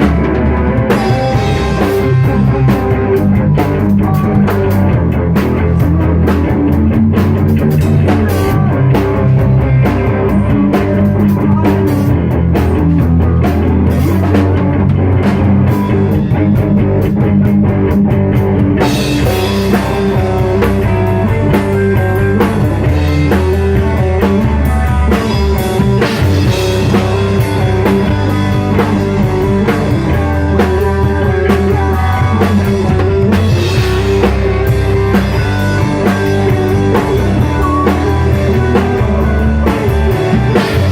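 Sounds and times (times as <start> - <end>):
rock music with drums and guitar: 0.0 - 40.9.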